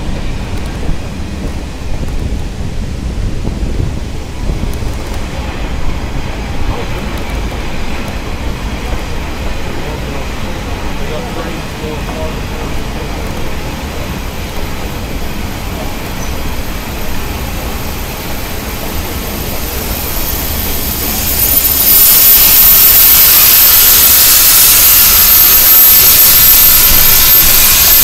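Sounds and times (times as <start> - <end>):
steam venting hiss: 0.0 - 28.0
train rumbling: 0.0 - 28.0.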